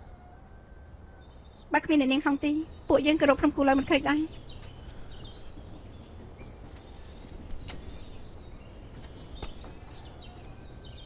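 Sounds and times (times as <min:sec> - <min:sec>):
small birds chirping: 0:01.2 - 0:11.0.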